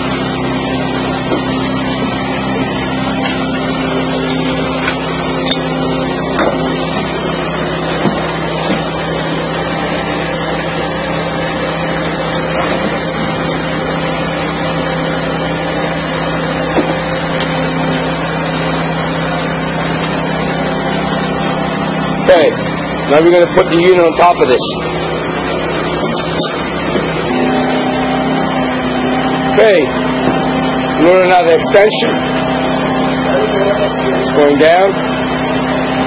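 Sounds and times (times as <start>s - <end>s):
hydraulic power unit droning: 0.0s - 36.0s.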